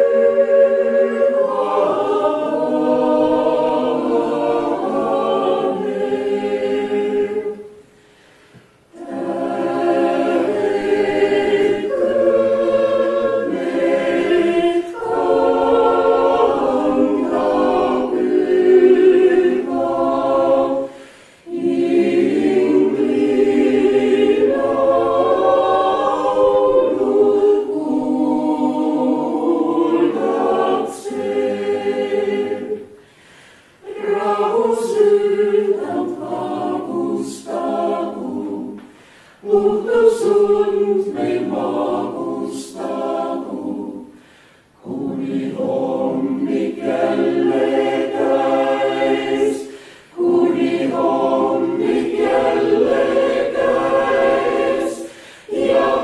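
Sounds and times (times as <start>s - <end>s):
choir singing: 0.0s - 8.0s, 8.8s - 56.0s.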